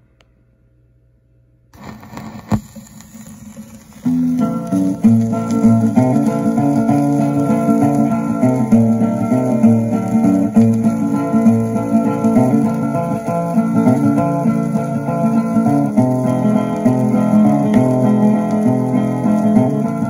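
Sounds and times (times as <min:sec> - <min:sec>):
acoustic guitar country melody: 0:01.8 - 0:20.0.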